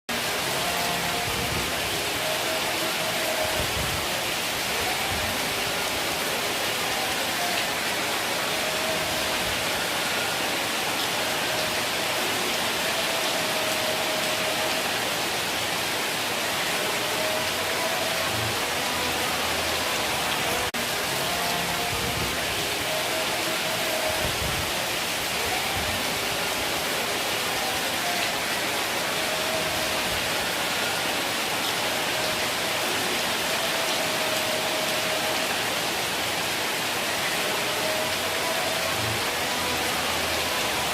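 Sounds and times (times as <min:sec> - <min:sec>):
heavy rain: 0:00.1 - 0:40.9.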